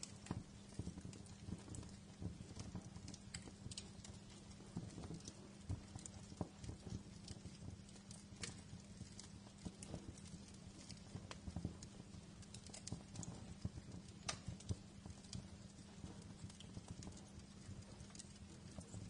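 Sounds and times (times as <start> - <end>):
low steady rumble: 0.0 - 19.0
wood fire crackling: 0.0 - 19.0.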